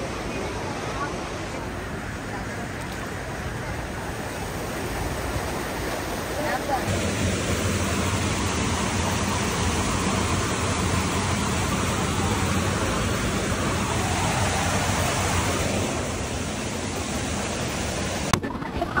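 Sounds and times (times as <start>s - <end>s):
flowing water: 0.0s - 19.0s.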